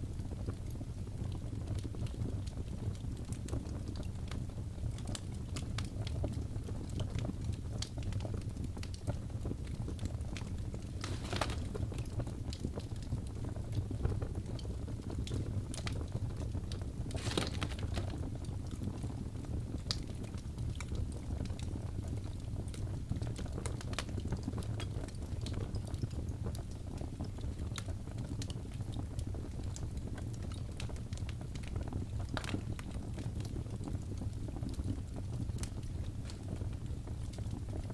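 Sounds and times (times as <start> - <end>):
fire crackling and popping: 0.0 - 37.9.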